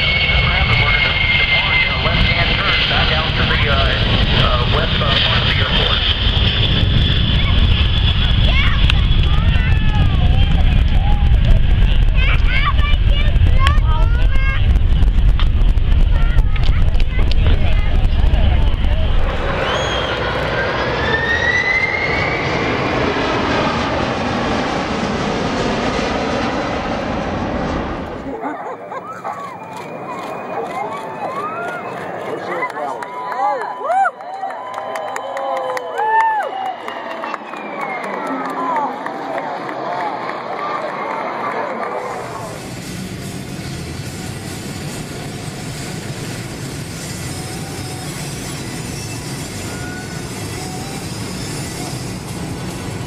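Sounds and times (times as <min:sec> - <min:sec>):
jet engine roar: 0:00.0 - 0:53.0.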